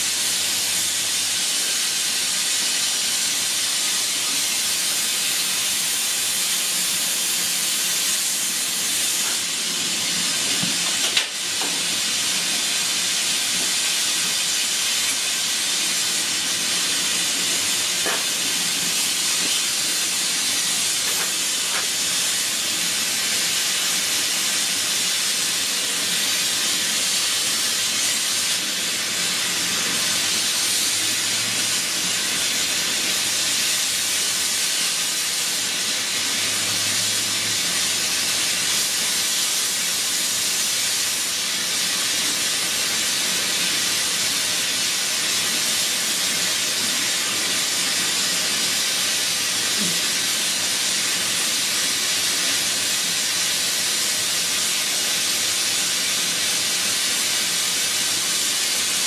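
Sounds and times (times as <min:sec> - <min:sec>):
loud steady hiss: 0:00.0 - 0:59.0.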